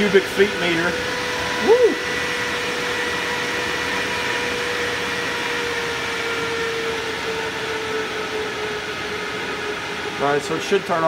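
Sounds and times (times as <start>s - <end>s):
duct fan air rushing: 0.0s - 11.0s
fan motor hum: 0.0s - 11.0s.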